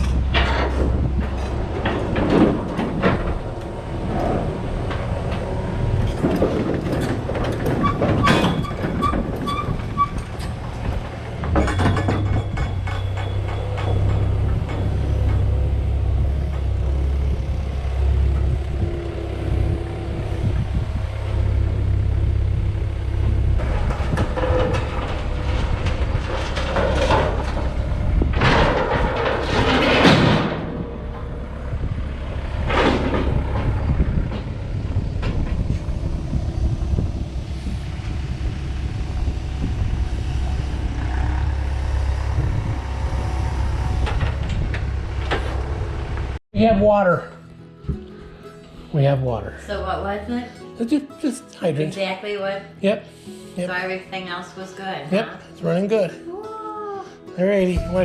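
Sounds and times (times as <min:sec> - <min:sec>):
diesel engine rumbling: 0:00.0 - 0:47.0, 0:57.1 - 0:58.0.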